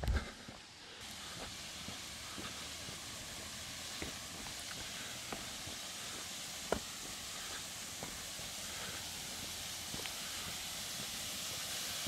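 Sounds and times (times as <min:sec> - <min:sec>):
footsteps on stone path: 0:00.0 - 0:10.4
distant waterfall rushing: 0:00.9 - 0:12.0.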